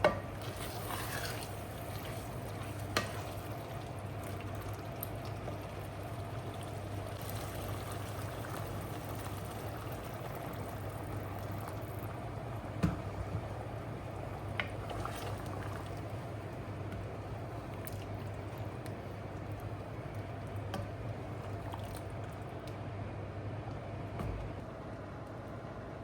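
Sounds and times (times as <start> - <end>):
food bubbling on stove: 0.0 - 25.9.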